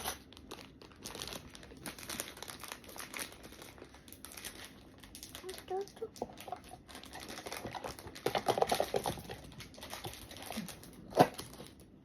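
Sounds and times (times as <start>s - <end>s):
plastic packaging rustling: 0.0s - 12.0s.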